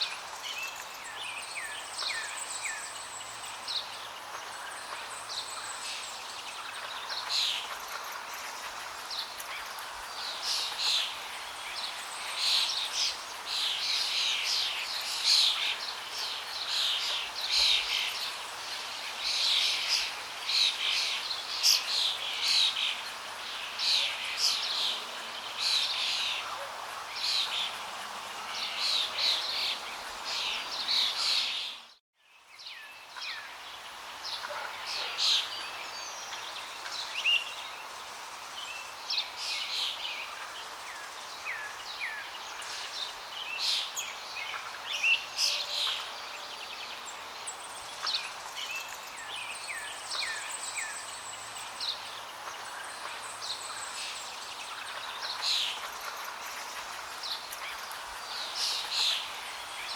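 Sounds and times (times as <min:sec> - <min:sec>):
small birds chirping and singing: 0:00.0 - 0:59.9.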